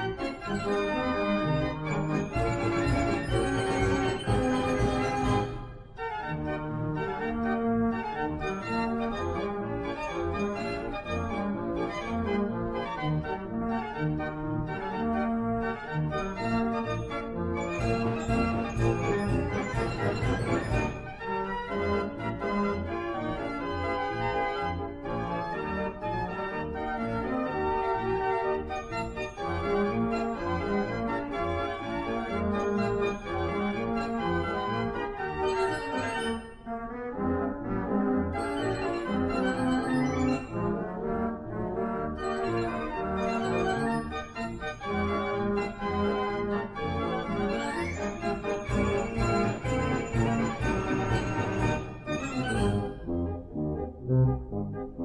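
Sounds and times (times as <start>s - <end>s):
organ chords: 0.0s - 55.0s.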